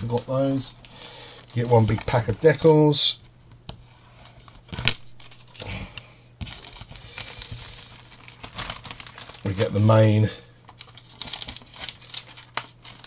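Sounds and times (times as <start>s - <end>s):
plastic bag crinkling and rustling: 0.0s - 2.7s, 4.4s - 13.0s.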